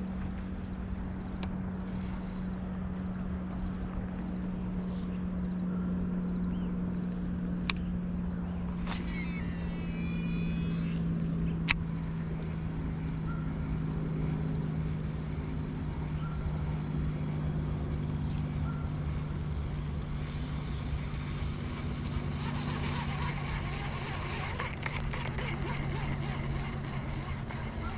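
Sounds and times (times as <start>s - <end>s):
engine humming: 0.0s - 27.9s.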